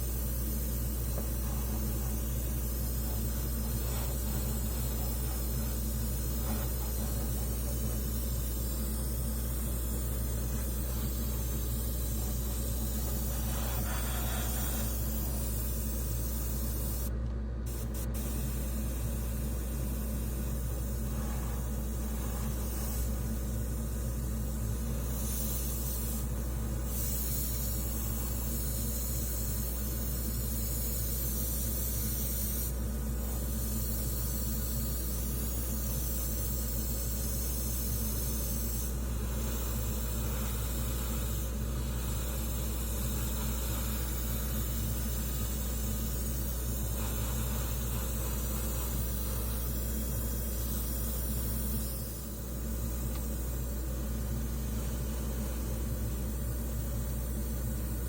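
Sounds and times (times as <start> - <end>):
airbrush spraying hiss: 0.0 - 58.0
low machine hum: 0.0 - 58.0.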